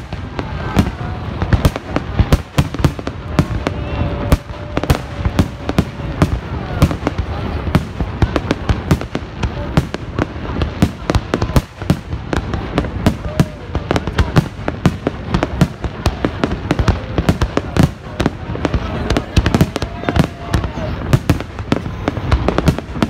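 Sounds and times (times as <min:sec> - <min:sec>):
fireworks bursts and crackling bangs: 0:00.0 - 0:23.0.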